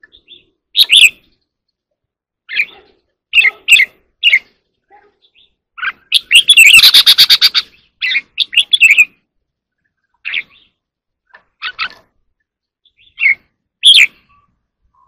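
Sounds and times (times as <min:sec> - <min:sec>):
bird chirping and rattling song: 0:00.0 - 0:15.0.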